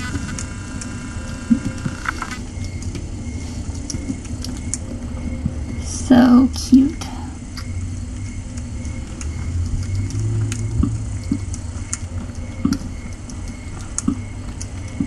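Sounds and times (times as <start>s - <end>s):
cats purring: 0.0s - 15.0s.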